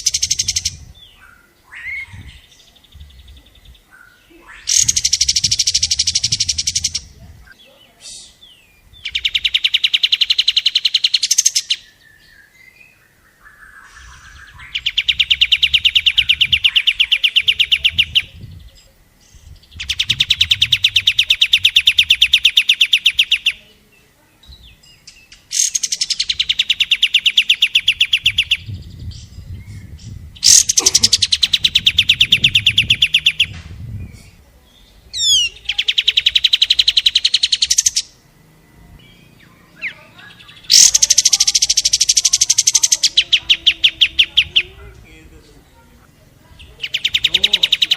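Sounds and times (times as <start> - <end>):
songbird trilling: 0.0 - 47.9.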